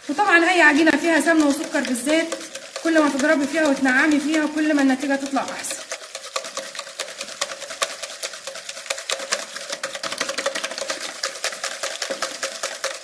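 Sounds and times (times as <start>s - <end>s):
utensil clicking against bowl: 0.7s - 13.0s.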